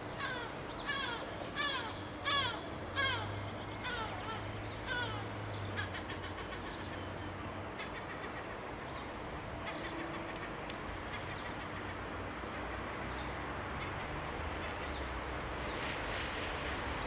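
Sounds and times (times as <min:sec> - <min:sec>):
faint train rumble: 0:00.0 - 0:17.0.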